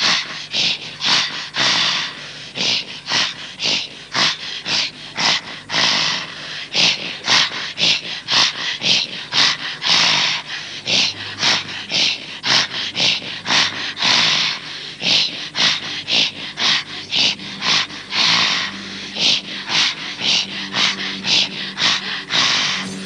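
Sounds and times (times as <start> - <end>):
rhythmic breathy throat exhalations: 0.0 - 23.0.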